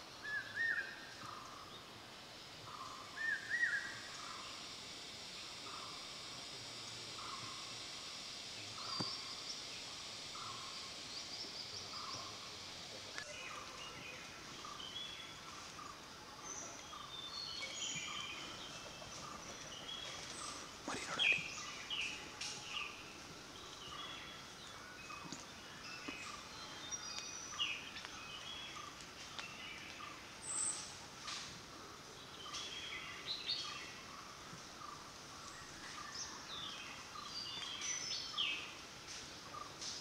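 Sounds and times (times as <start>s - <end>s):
birds chirping: 0.1s - 31.0s, 32.1s - 38.8s.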